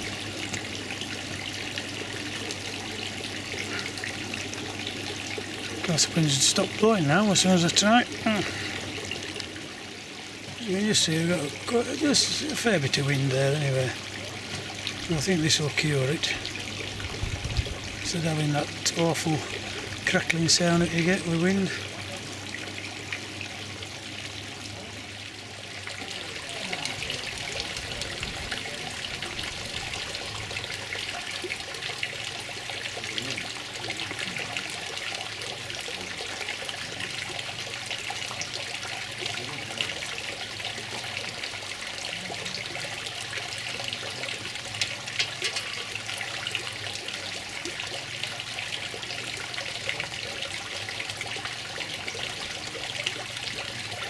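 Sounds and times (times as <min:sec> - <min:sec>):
garden ambience hiss: 0:00.0 - 0:54.0.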